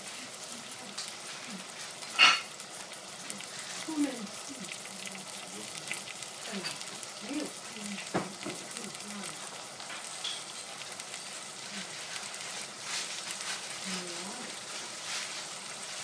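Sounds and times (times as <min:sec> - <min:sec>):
vegetables sizzling in a saucepan: 0:00.0 - 0:16.0.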